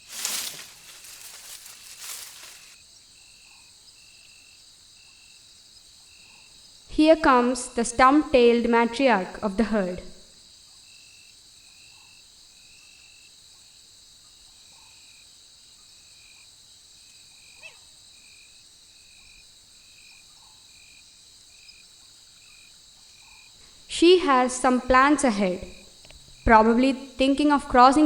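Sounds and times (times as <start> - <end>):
crickets and insects chirping: 0.0 - 28.0.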